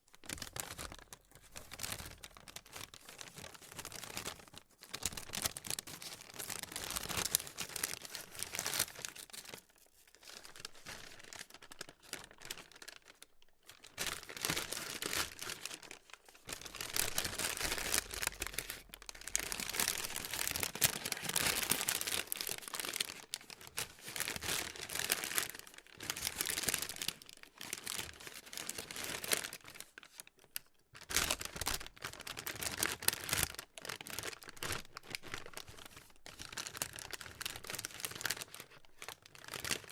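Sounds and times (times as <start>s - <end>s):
plastic being crumpled: 0.0s - 39.9s.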